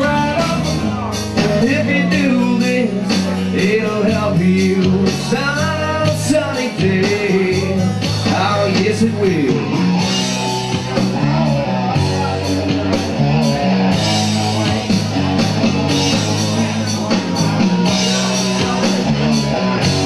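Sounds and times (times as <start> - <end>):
bass: 0.0 - 20.0
electric guitar: 0.0 - 20.0
steady drum beat: 0.0 - 20.0.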